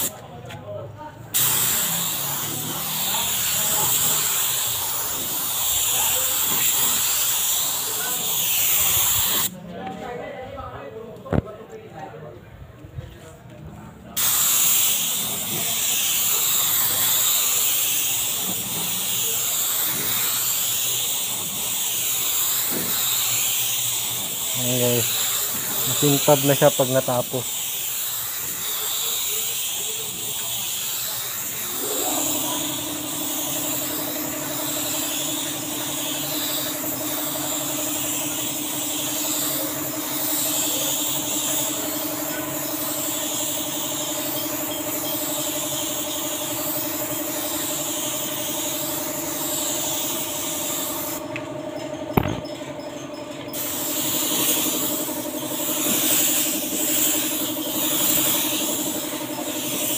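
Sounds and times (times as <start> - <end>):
spray gun hissing: 1.3 - 9.5, 14.2 - 51.3, 53.5 - 59.9
air compressor motor hum: 1.3 - 9.6, 14.2 - 59.9.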